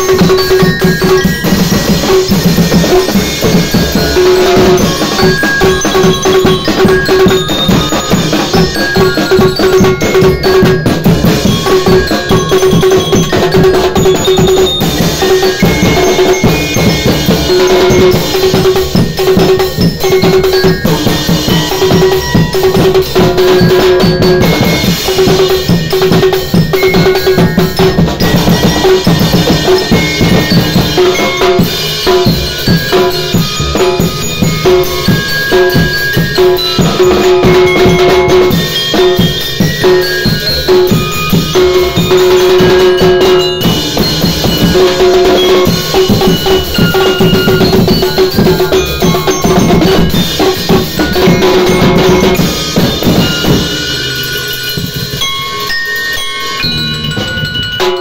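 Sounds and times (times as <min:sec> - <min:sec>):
glockenspiel notes: 0:00.0 - 0:58.0
street percussion band: 0:00.0 - 0:58.0.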